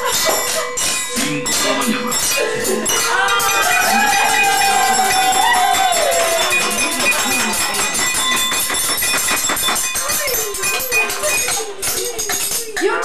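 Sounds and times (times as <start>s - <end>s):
shakers and jingles rattling: 0.0s - 13.0s.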